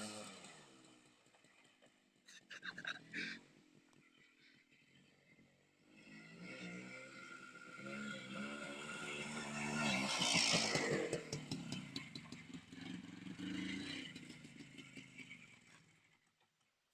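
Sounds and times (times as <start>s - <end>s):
two-stroke motorcycle engine: 0.0s - 16.5s.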